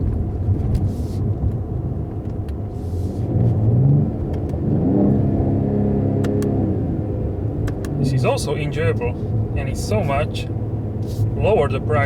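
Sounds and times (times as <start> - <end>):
car engine accelerating: 0.0 - 12.0
road rumble: 0.0 - 12.0.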